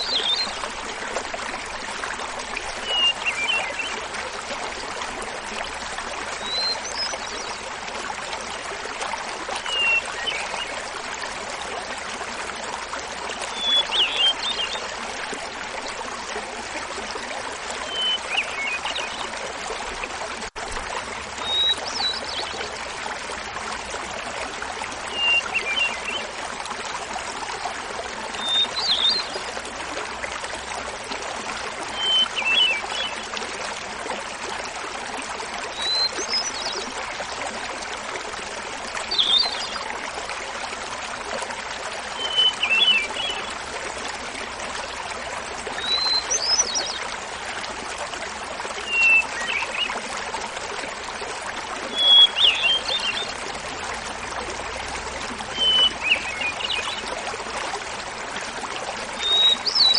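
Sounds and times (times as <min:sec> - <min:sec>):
small waterfall running: 0:00.0 - 0:59.9.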